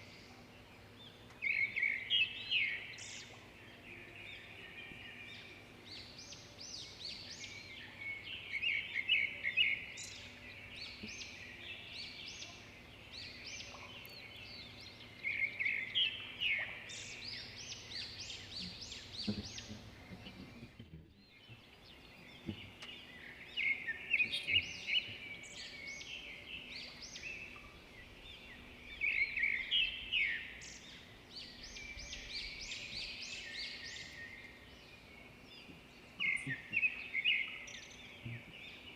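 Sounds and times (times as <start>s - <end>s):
birds twittering: 0.0s - 38.9s.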